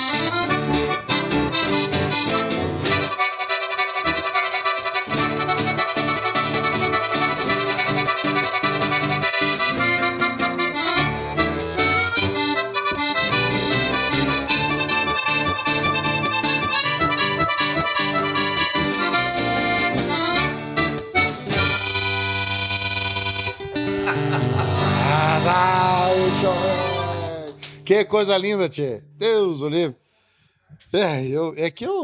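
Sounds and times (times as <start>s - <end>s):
accordions playing lively tune: 0.0s - 27.9s.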